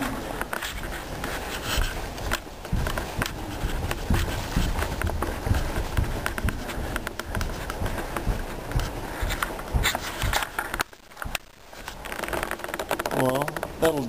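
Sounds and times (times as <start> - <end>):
footsteps on wooden decking: 0.0 - 14.0.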